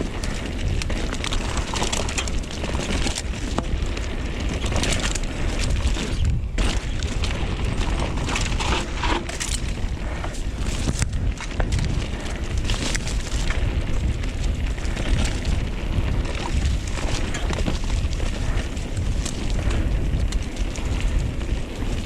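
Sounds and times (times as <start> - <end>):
bike rattling over rough ground: 0.0 - 22.0
bike tyre noise: 0.0 - 22.0
wind buffeting microphone: 0.0 - 22.0.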